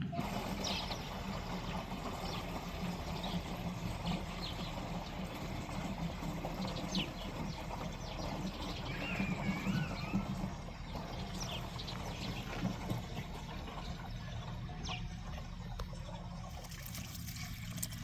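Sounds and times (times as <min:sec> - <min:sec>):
birds chirping: 0:00.0 - 0:16.5.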